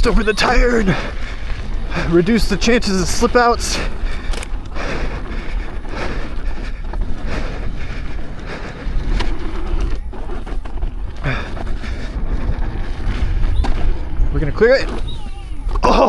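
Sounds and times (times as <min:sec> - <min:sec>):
tire rolling over dirt trail: 0:00.0 - 0:16.0
wind buffeting microphone: 0:00.0 - 0:16.0.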